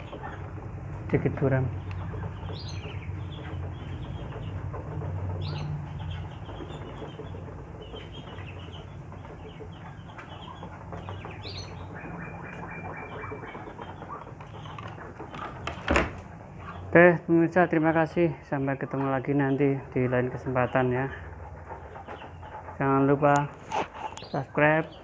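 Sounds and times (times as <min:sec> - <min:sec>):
duck bills pecking and clattering: 0:00.0 - 0:25.0
ducks chirping: 0:00.0 - 0:25.0.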